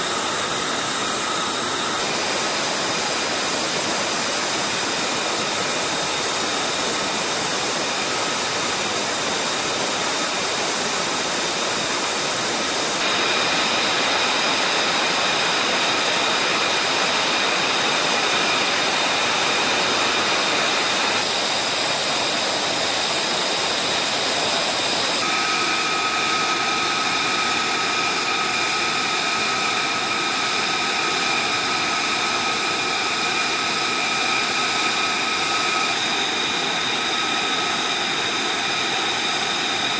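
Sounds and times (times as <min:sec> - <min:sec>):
jet engine idling: 0:00.0 - 0:39.9.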